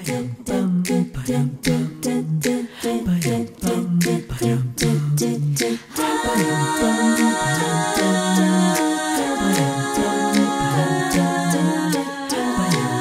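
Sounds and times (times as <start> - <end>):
vocal beat: 0.0 - 13.0
voices singing close harmony: 0.0 - 13.0.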